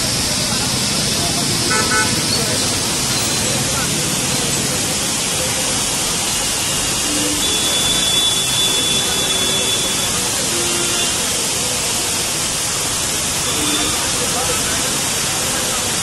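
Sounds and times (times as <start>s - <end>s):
water cascading onto road: 0.0s - 16.0s.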